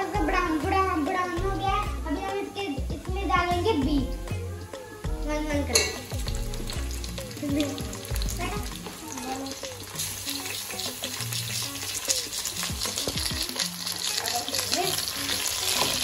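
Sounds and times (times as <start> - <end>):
meat sizzling in hot oil: 0.0 - 2.6, 5.7 - 16.0
background music: 0.0 - 16.0.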